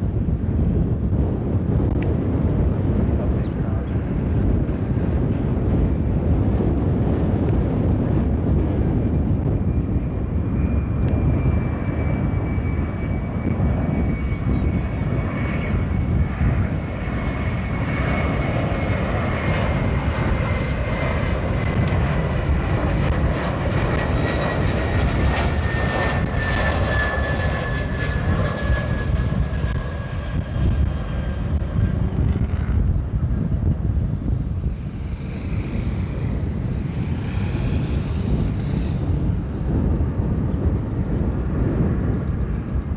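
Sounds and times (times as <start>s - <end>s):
high jet whine: 0.0s - 42.9s
jet airliner engine rumble: 0.0s - 42.9s.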